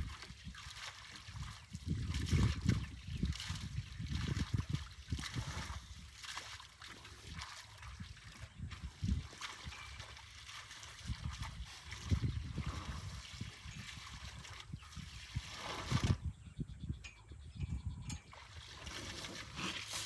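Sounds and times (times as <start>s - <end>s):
water trickling and splashing: 0.0s - 16.3s, 18.1s - 20.0s.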